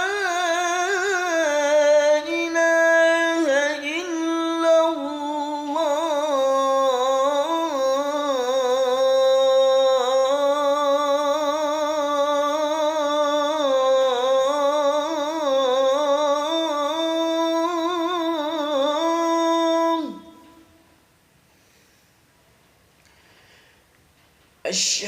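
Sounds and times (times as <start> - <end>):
man singing call to prayer: 0.0 - 20.8.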